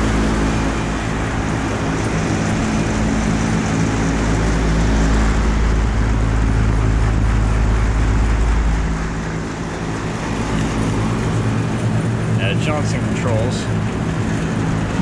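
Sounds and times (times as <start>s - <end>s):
air conditioner compressor hum: 0.0s - 15.0s
condenser fan rushing: 0.0s - 15.0s
heavy low rumble: 0.0s - 15.0s.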